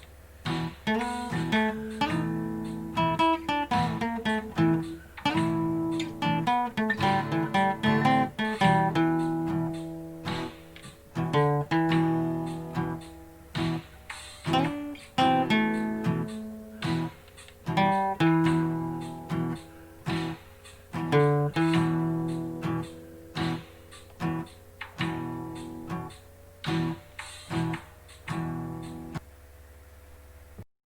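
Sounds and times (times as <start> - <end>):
acoustic guitar blues: 0.4 - 29.2.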